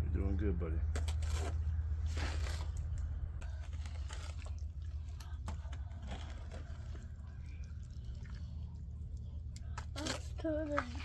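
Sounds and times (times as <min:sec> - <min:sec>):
steady low hum: 0:00.0 - 0:11.0
wet cement scraping and squelching: 0:00.9 - 0:11.0.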